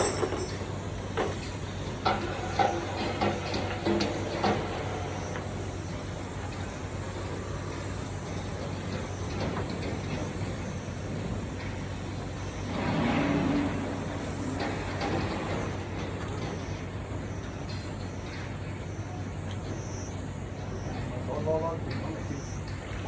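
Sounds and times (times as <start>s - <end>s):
heat pump humming: 0.0s - 23.0s.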